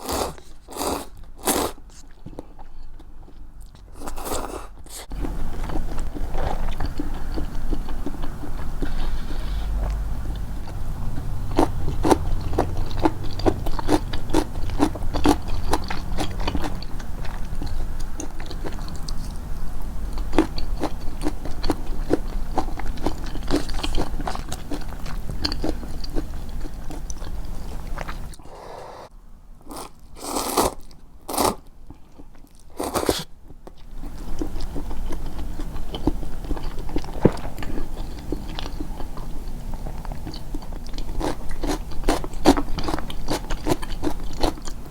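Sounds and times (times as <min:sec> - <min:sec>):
chewing crisp food: 0:00.0 - 0:28.8, 0:29.7 - 0:44.9.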